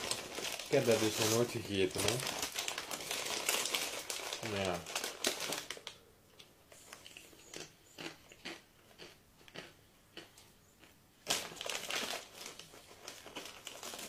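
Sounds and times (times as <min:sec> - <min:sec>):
potato chips crunching: 0:00.0 - 0:05.9, 0:06.9 - 0:14.0.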